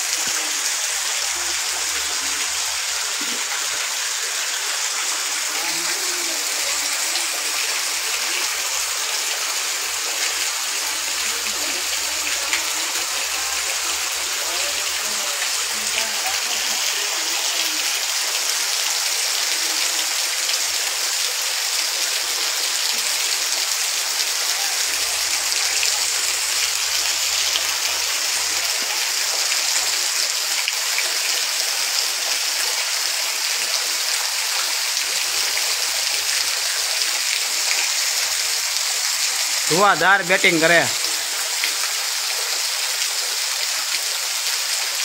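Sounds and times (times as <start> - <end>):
torrential rain hissing: 0.0 - 45.0.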